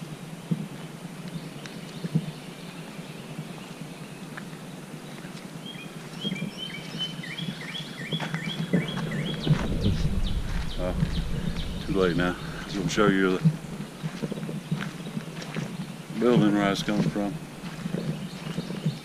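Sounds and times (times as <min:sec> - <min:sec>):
outdoor background noise: 0:00.0 - 0:19.0
songbird chirping: 0:00.1 - 0:19.0
footsteps on a trail: 0:00.4 - 0:19.0.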